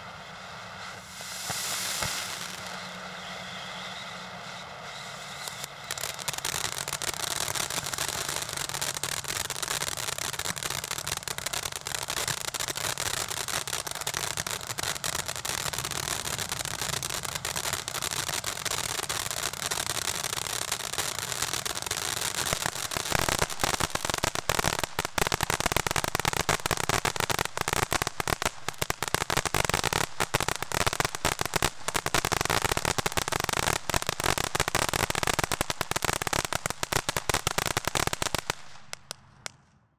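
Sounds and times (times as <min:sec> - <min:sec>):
firework fountain hissing and crackling: 0:00.0 - 0:39.6.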